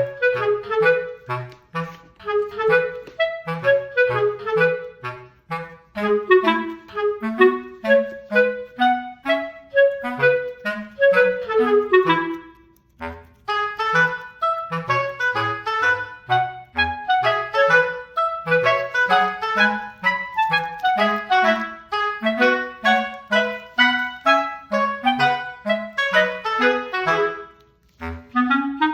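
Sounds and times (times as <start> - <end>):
playful woodwind melody: 0.0 - 28.9.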